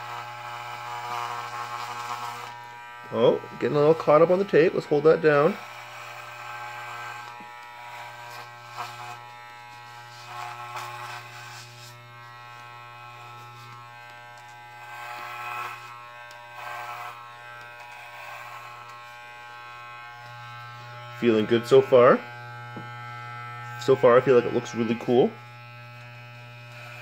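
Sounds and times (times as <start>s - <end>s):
electric hair clippers buzzing: 0.0s - 27.0s.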